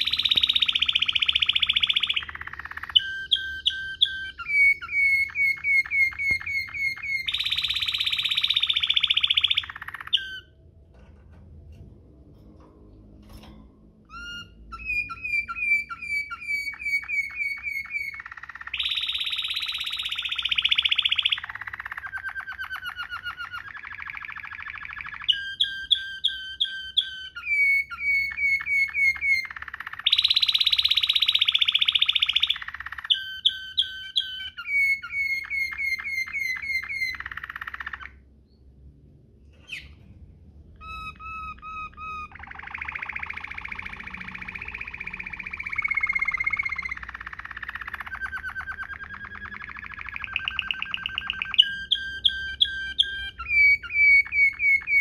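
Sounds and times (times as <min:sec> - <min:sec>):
canary singing trills: 0:00.0 - 0:11.1, 0:13.2 - 0:38.9, 0:39.6 - 0:55.0.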